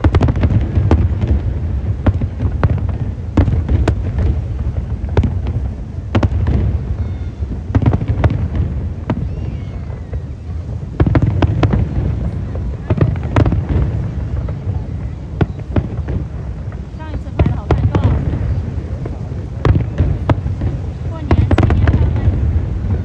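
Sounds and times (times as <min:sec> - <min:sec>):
low rumble of booms: 0:00.0 - 0:23.0.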